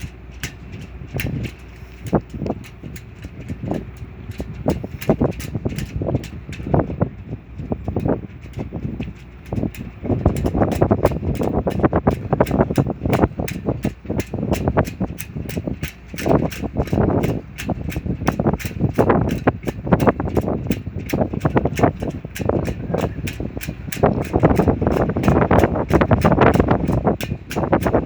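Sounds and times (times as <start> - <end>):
fast steady clicks: 0.0 - 28.0
wind buffeting microphone: 0.0 - 28.0.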